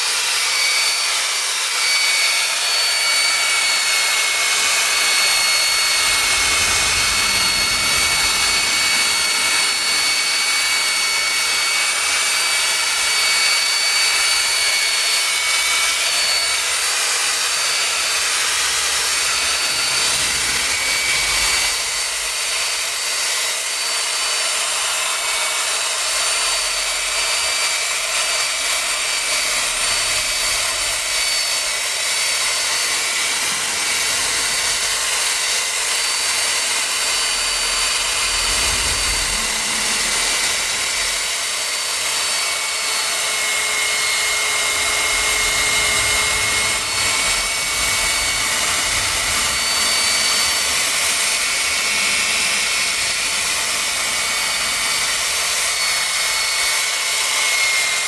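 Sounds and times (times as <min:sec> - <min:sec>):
power sander motor whining: 0:00.0 - 0:58.0.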